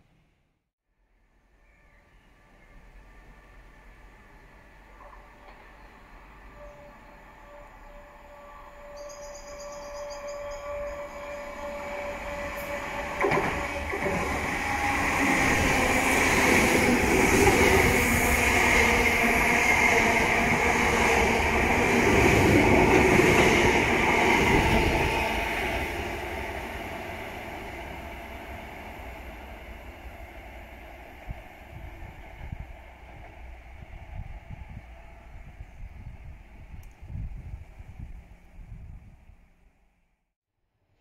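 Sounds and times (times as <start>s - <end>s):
electric train passing: 2.4s - 36.8s.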